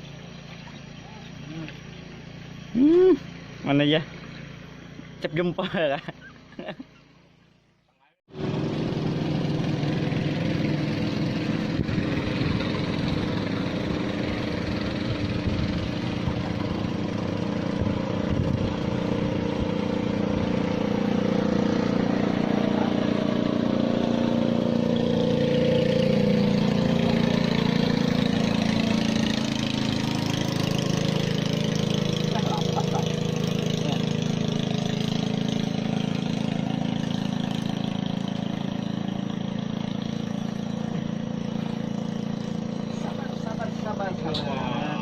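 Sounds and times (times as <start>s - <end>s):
small engine running: 0.0s - 45.0s.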